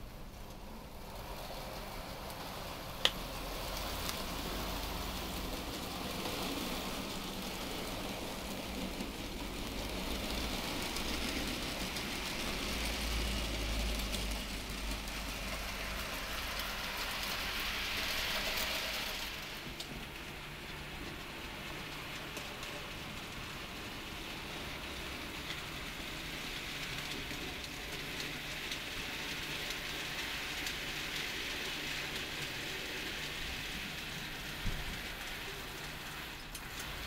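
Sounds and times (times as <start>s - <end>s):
model train wheels rattling: 0.0s - 37.0s.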